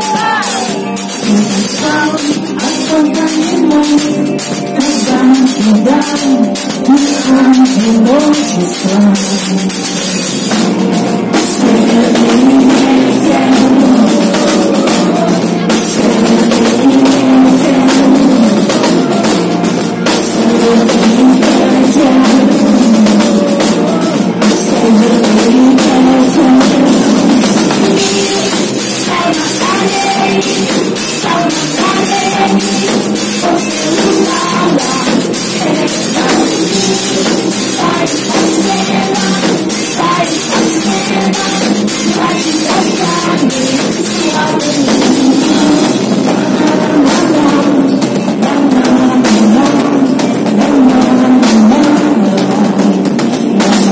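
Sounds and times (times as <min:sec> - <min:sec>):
woman singing: 0:00.0 - 0:10.2, 0:11.2 - 0:53.9
drum kit beat: 0:00.0 - 0:53.9
keyboards: 0:00.0 - 0:53.9
live rock band playing: 0:00.0 - 0:53.9.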